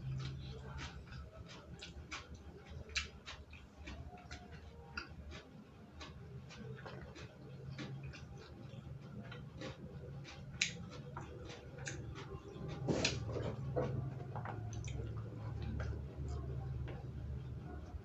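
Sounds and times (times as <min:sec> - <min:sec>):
low steady hum: 0:00.0 - 0:18.0
person chewing crunchy vegetables: 0:00.0 - 0:18.0.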